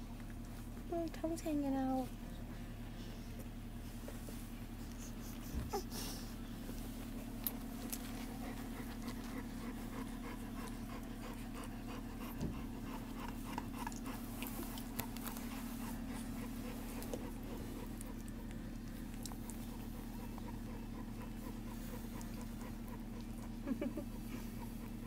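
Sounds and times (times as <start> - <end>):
steady low hum: 0.0 - 25.0
puppies suckling clicks and squeaks: 3.3 - 25.0.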